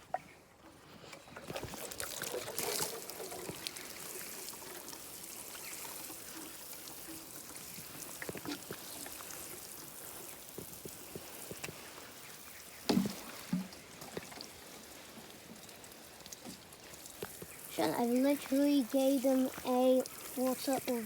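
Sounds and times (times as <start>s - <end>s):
water pouring onto soil: 1.1s - 21.0s.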